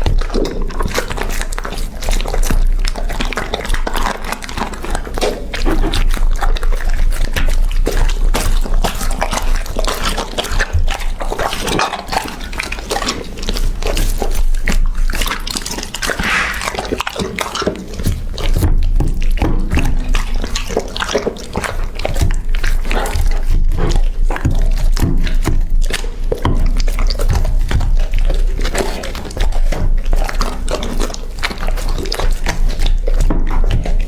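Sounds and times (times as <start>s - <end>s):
dog chewing and licking: 0.0s - 34.0s.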